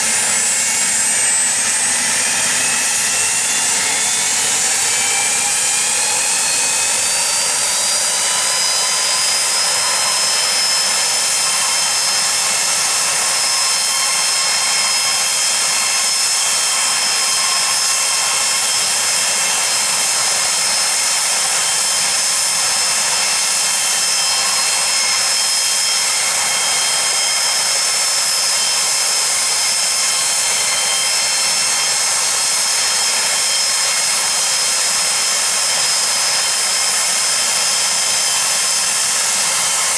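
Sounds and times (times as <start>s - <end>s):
jet engine whining: 0.0s - 39.9s.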